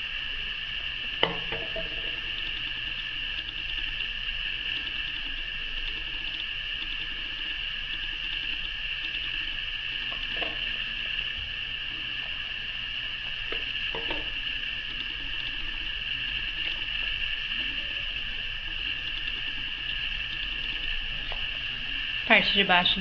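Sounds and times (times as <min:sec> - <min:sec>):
high-pitched background hum: 0:00.0 - 0:23.0.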